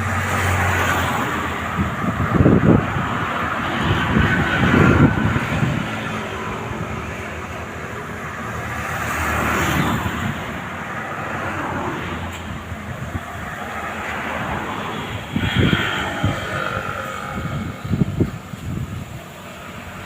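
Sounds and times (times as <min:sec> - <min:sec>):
strong wind gusting: 0:00.0 - 0:20.0
wind buffeting microphone: 0:00.0 - 0:20.0.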